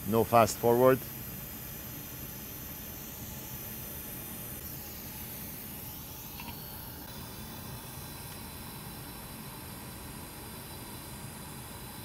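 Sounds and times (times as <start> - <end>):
hot air station blowing hiss: 0.0 - 12.0.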